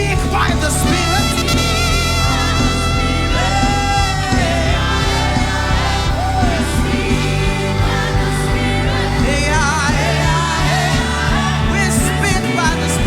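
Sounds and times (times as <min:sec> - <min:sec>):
band playing with steady bass: 0:00.0 - 0:13.0
singers holding long notes: 0:00.0 - 0:13.0.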